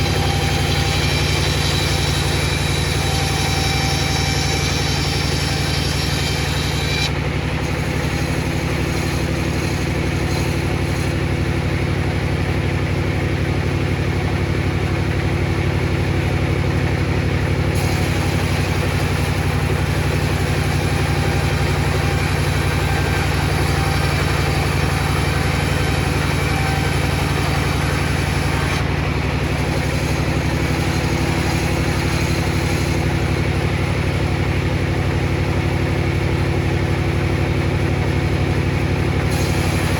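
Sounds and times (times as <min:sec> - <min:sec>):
table saw motor hum: 0:00.0 - 0:39.9.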